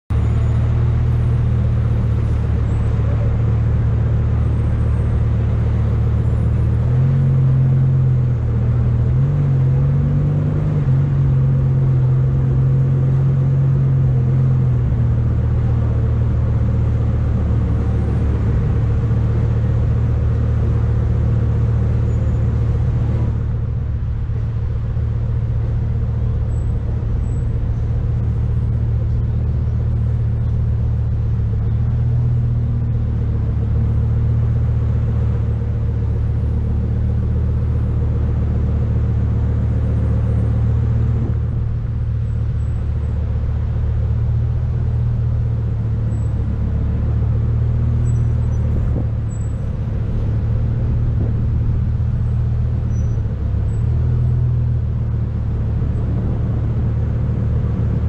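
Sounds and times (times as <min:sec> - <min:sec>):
car engine low drone: 0:00.0 - 0:58.0.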